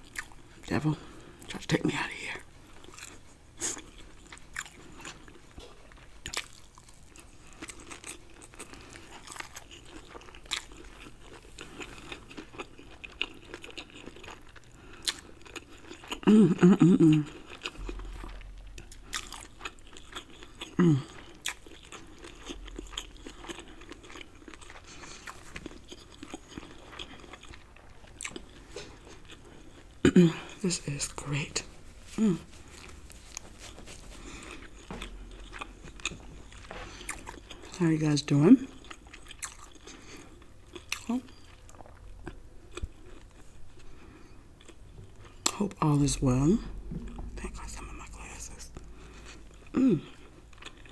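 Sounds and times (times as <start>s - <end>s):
chewing with mouth clicks: 0.0s - 1.6s, 2.2s - 31.4s, 32.1s - 50.9s.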